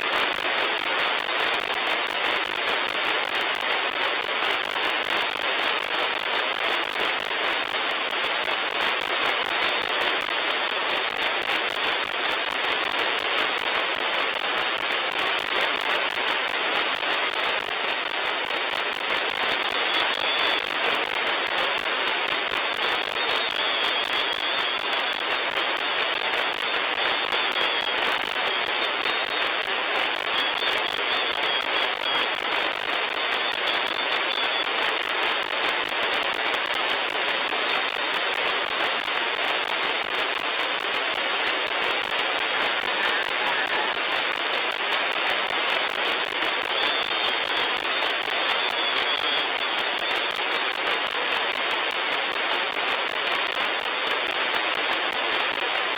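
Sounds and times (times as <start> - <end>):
radio static hiss and crackle: 0.0 - 55.9.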